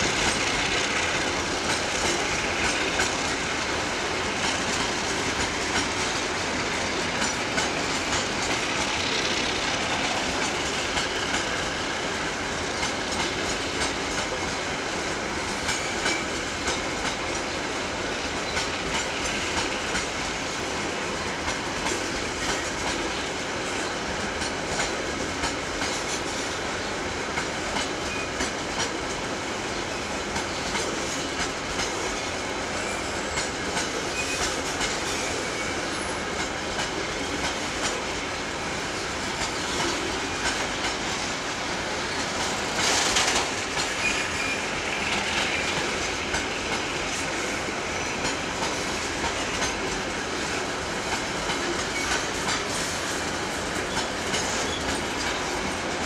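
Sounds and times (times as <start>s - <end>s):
train rolling rumble: 0.0s - 56.0s
train wheels clicking over rail joints: 0.0s - 56.0s.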